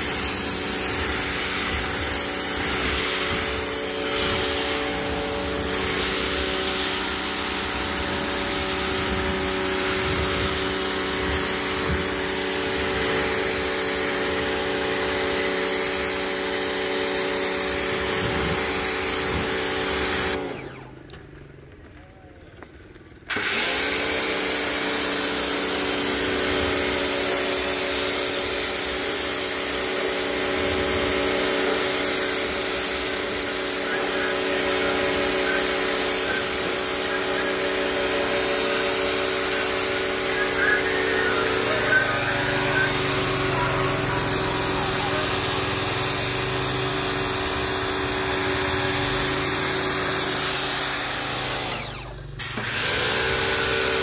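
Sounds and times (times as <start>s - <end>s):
water spray hissing: 0.0s - 20.4s, 26.6s - 51.6s
pressure washer motor humming: 0.0s - 21.2s, 23.3s - 54.0s.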